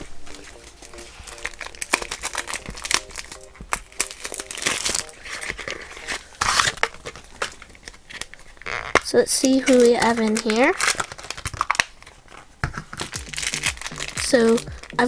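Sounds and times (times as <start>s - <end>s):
packaging crinkling: 0.0s - 15.0s
packaging ripping: 0.0s - 15.0s.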